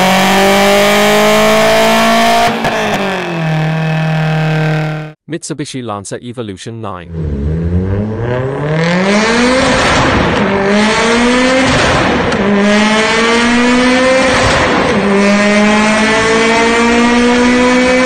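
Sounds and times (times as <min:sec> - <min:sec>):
car engine revving through gears: 0:00.0 - 0:05.2, 0:07.1 - 0:18.0.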